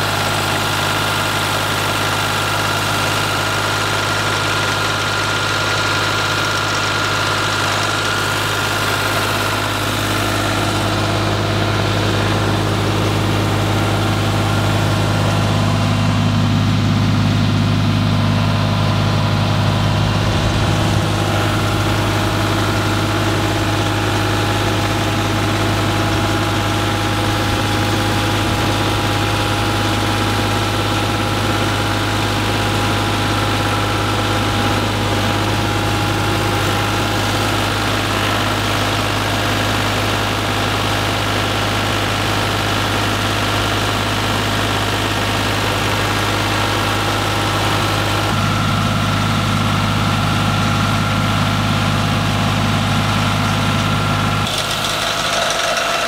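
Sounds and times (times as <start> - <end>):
trencher engine running: 0.0 - 56.0.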